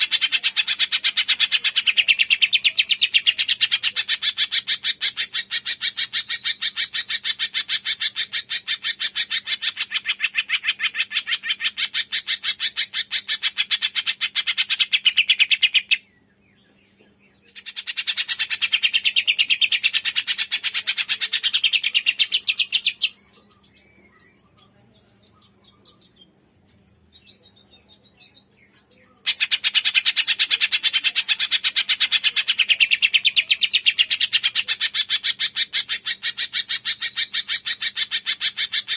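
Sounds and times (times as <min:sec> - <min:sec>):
bird singing rapid chatter: 0:00.0 - 0:38.9
faint bird chirps: 0:00.0 - 0:38.9.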